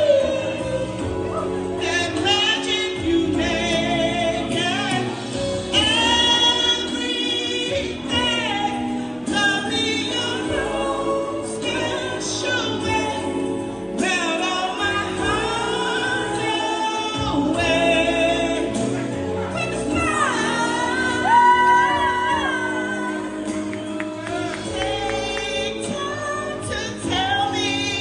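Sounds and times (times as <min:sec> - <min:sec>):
musical backing: 0:00.0 - 0:28.0
person singing slow song: 0:00.0 - 0:28.0.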